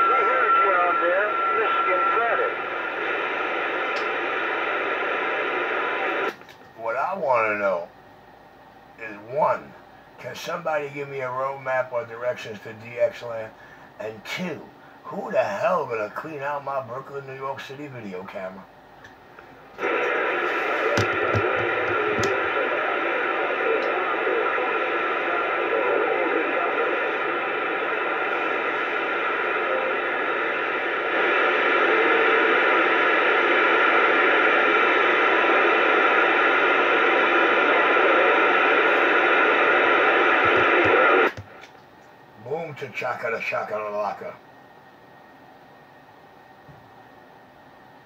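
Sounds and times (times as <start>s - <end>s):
radio static hiss: 0.0s - 8.0s, 9.0s - 44.5s.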